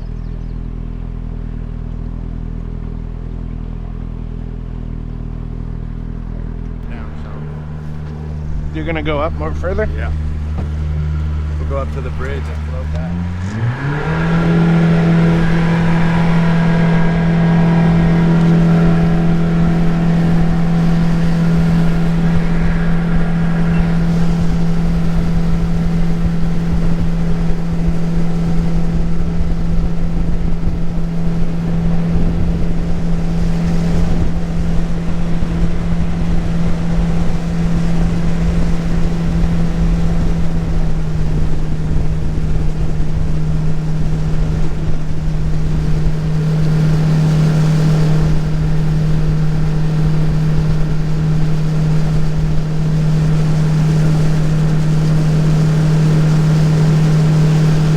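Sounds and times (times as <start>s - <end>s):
jet boat motor running: 0.0s - 57.9s
water and wind rushing: 6.8s - 57.9s.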